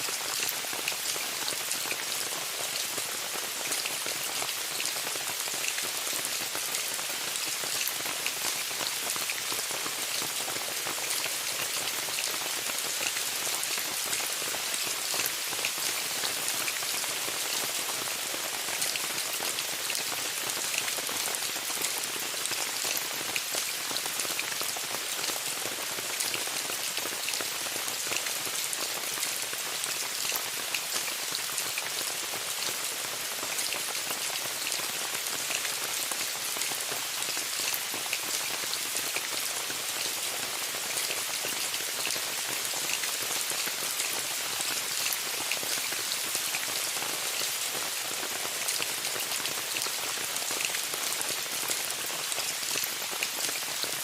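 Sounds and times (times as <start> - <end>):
rain on a tent: 0.0 - 54.0.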